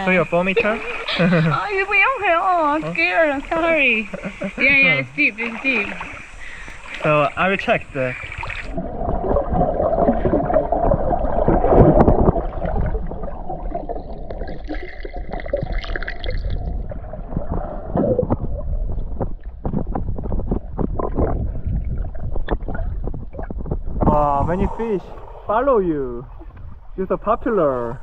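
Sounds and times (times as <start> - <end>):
water sloshing and gurgling: 0.0 - 28.0.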